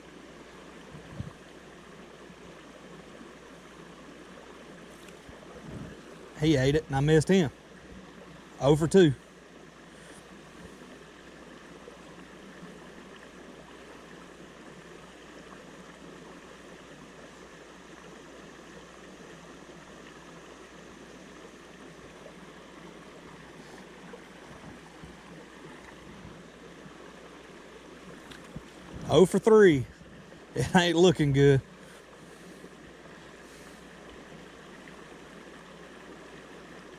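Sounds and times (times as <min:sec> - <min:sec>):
creek flowing over rocks: 0:00.0 - 0:36.9.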